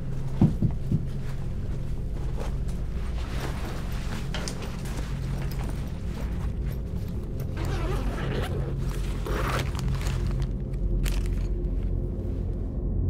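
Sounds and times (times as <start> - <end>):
low ambient drone: 0.0 - 13.0
objects rustling in fabric bag: 1.2 - 12.5.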